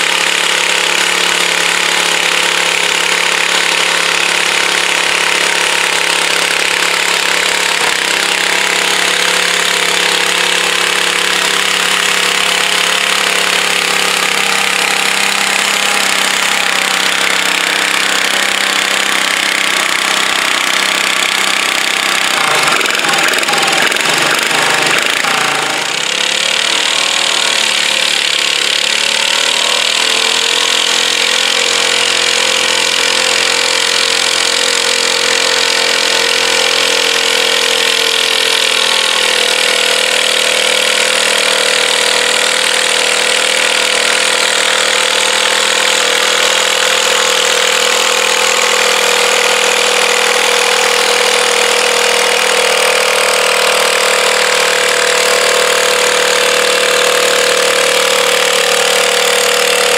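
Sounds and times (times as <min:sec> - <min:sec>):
garden tractor engine revving: 0:00.0 - 0:59.9.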